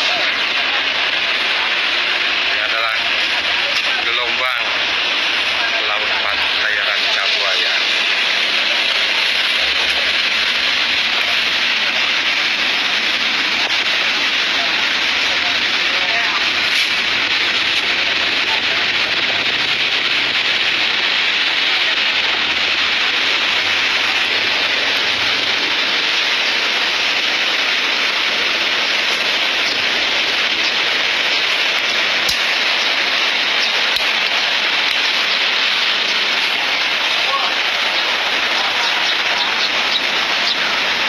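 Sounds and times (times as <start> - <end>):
ocean waves breaking: 0.0 - 41.0.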